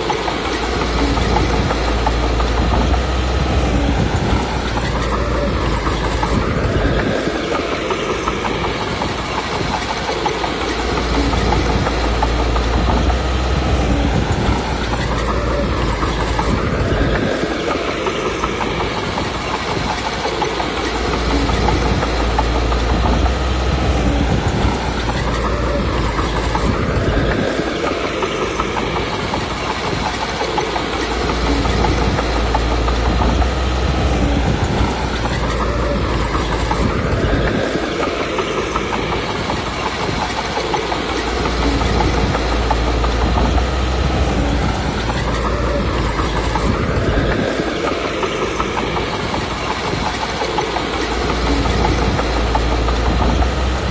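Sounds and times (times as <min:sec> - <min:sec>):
bulldozer diesel engine under load: 0:00.0 - 0:53.9
clattering steel tracks: 0:00.0 - 0:53.9
heavy low rumble: 0:00.0 - 0:53.9.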